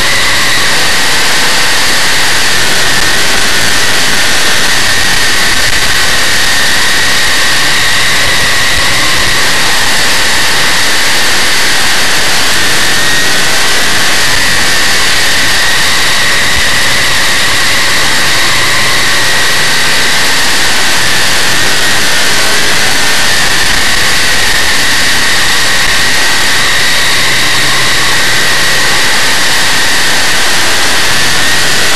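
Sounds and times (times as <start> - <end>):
race car engine roaring: 0.0 - 31.9.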